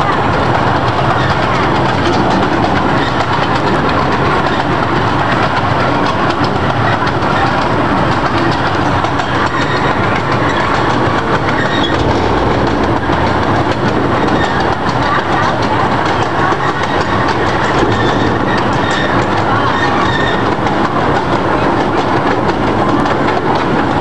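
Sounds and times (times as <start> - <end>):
train cars rumbling and rattling: 0.0 - 24.0
wheels clicking on rails: 0.0 - 24.0.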